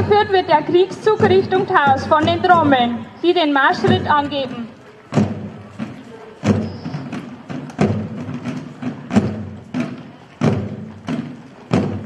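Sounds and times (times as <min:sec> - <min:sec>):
field drums beating a march: 0:00.0 - 0:12.0.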